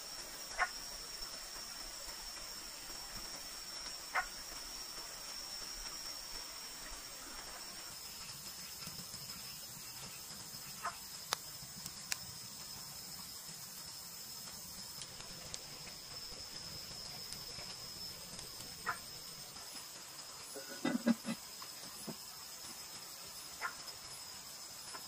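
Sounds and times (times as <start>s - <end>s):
wood fire crackling: 0.0s - 20.6s
night insects trilling: 0.0s - 25.0s.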